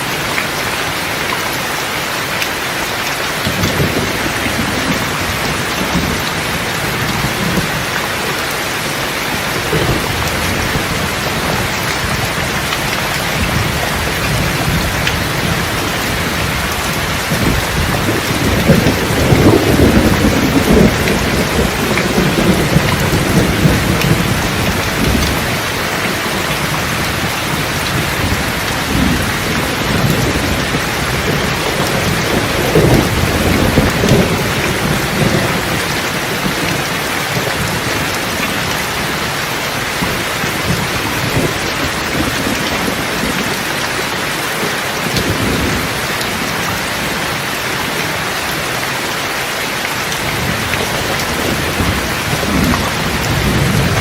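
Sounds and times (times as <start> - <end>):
steady rain falling: 0.0 - 54.0
thunder rumbling: 3.3 - 48.1, 50.0 - 54.0.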